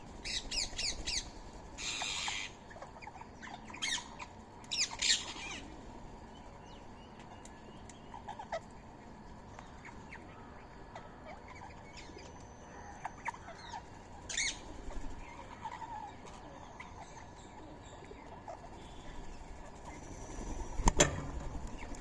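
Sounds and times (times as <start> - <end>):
birds calling and chirping: 0.0 - 22.0.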